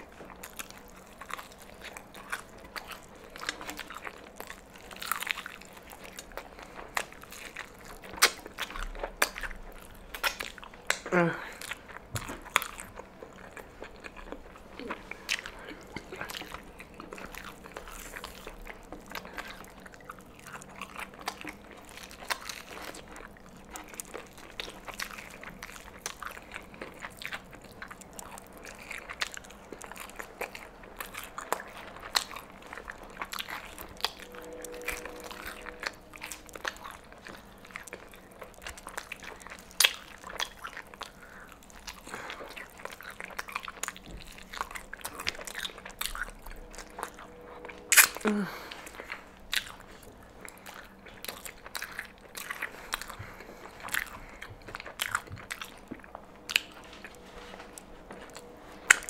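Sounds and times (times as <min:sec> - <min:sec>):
crunchy bites and chewing: 0:00.0 - 0:59.0.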